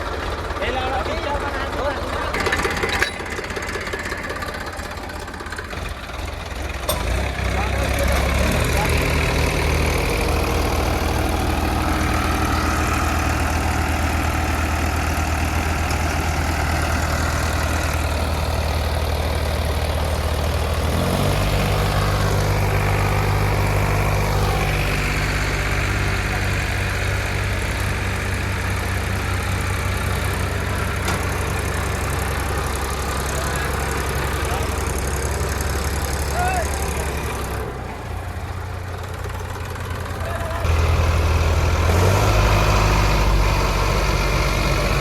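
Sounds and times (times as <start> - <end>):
backhoe diesel engine running: 0.0 - 45.0.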